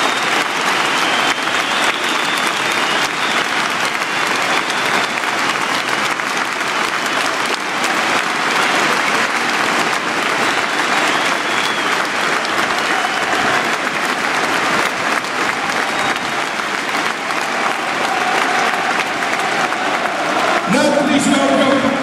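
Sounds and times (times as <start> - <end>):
sharp nearby hand claps: 0.0 - 20.7
stadium crowd applauding: 0.0 - 22.0.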